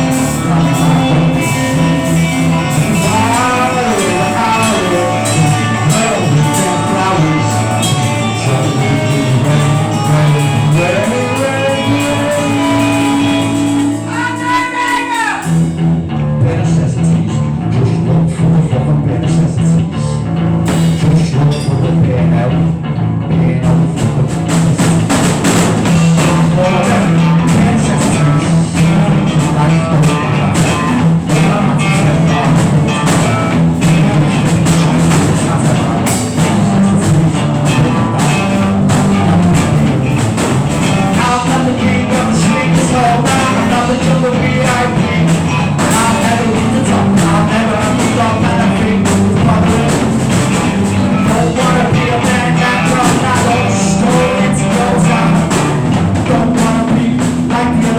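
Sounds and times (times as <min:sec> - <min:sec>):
low bass line: 0:00.0 - 0:14.4, 0:15.4 - 0:57.9
drum kit: 0:00.0 - 0:57.9
guitar: 0:00.0 - 0:57.9.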